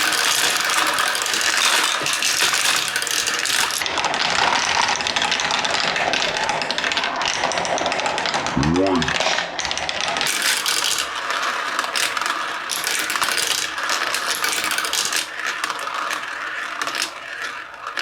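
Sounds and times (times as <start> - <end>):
marbles rattling down plastic tracks: 0.0 - 8.3, 10.3 - 18.0.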